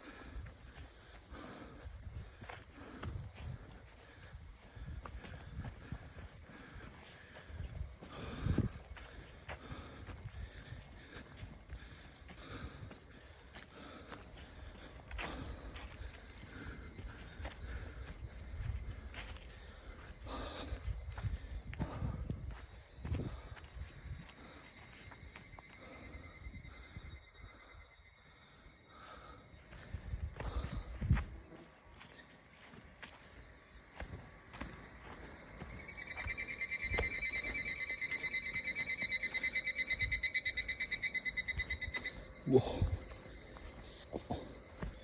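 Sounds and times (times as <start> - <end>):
cicadas droning: 0.0 - 45.0
close cicada pulsing song: 0.0 - 45.0
footsteps crunching on trail: 0.0 - 45.0
insects chorus: 0.0 - 45.0.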